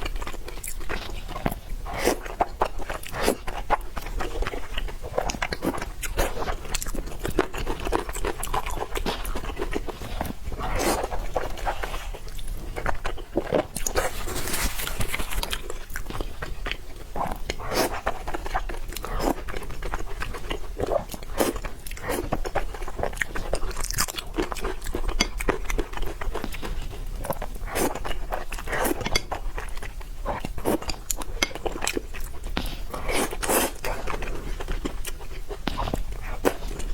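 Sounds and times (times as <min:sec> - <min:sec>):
chewing with crisp crunches: 0:00.0 - 0:36.9.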